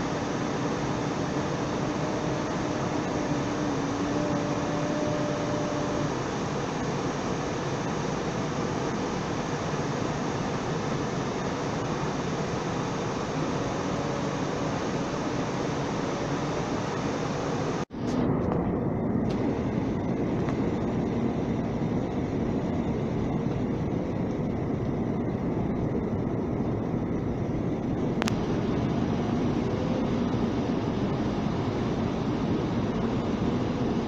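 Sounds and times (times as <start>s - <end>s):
airliner cabin engine noise: 0.0s - 34.0s
low hum: 0.0s - 34.0s.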